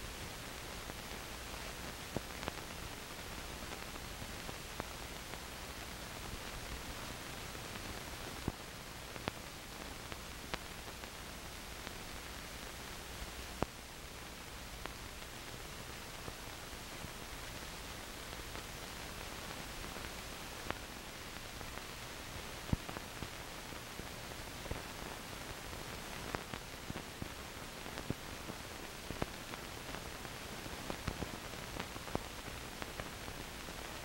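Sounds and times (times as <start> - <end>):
film surface hiss: 0.0 - 34.0.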